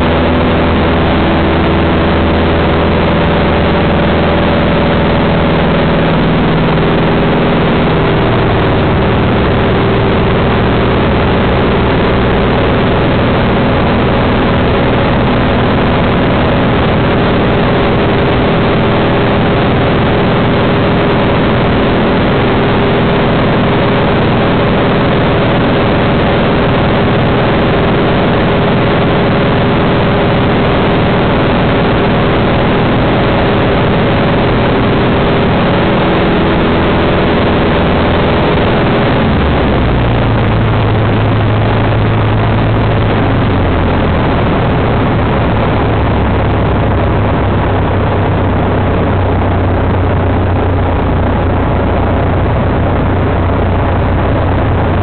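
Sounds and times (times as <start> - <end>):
propeller plane engine drone: 0.0 - 55.0
rushing air noise: 0.0 - 55.0.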